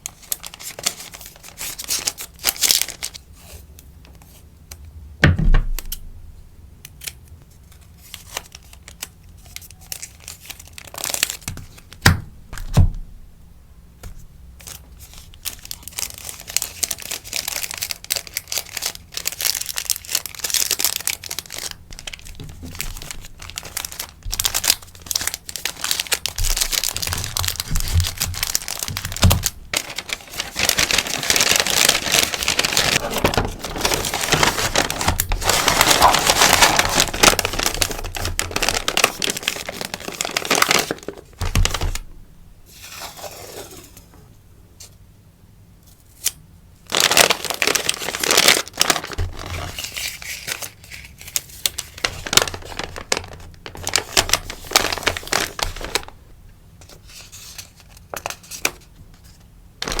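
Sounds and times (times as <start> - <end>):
packaging rustling and crinkling: 0.0 - 4.4, 7.6 - 12.0, 14.6 - 42.1, 46.8 - 60.0.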